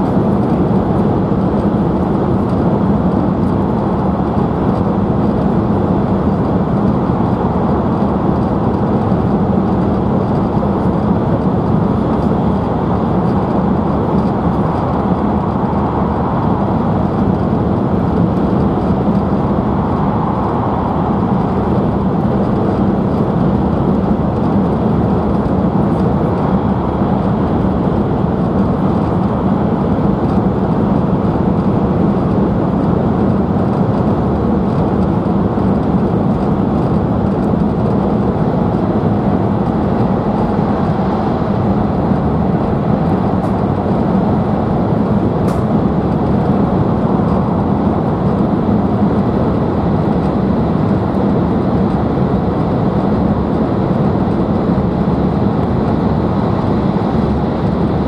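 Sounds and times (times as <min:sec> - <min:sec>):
train running noise inside cabin: 0:00.0 - 0:58.0.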